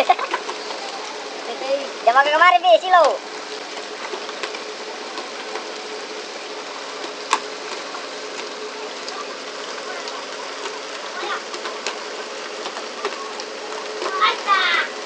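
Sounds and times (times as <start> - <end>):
boat engine hum: 0.0 - 15.0
rush of water: 0.0 - 15.0.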